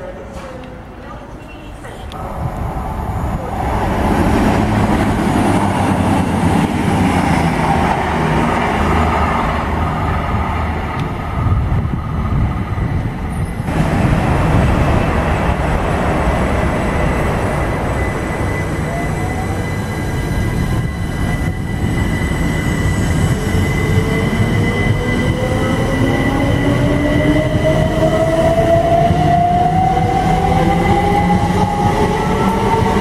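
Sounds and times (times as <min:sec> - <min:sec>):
rail rumble: 0:00.0 - 0:33.0
electric train passing: 0:00.8 - 0:33.0
diesel train engine drone: 0:02.0 - 0:33.0.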